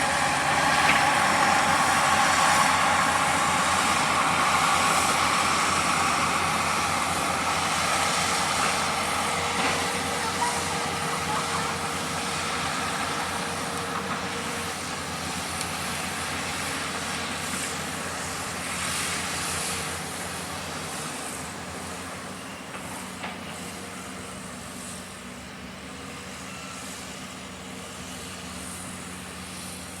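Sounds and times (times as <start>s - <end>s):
construction machinery engine running: 0.0s - 30.0s.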